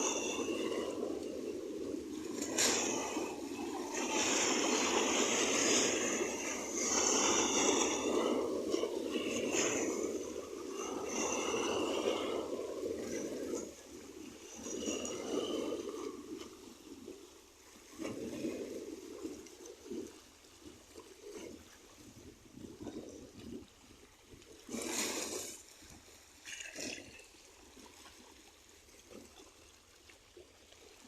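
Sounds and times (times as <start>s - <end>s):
small waves lapping: 0.0s - 31.0s.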